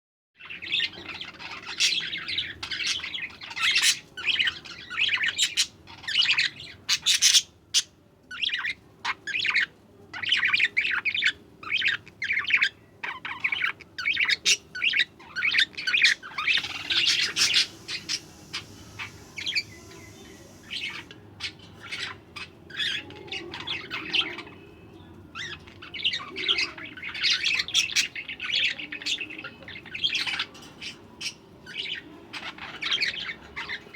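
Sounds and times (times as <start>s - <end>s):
budgerigars chattering and chirping: 0.4s - 24.7s, 25.3s - 33.9s.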